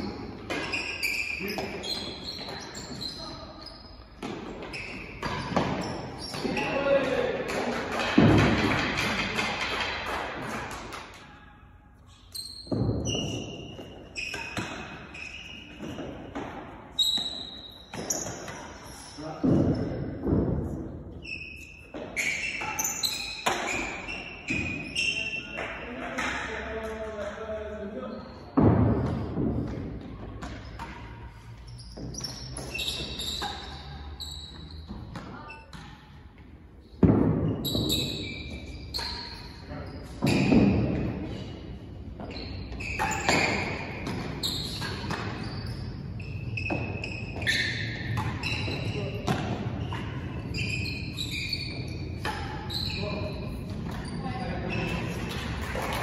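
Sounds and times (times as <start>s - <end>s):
rackets striking ball: 4.2s - 11.2s, 12.6s - 18.8s, 21.9s - 27.4s, 28.6s - 36.2s, 36.8s - 54.2s, 54.8s - 56.0s.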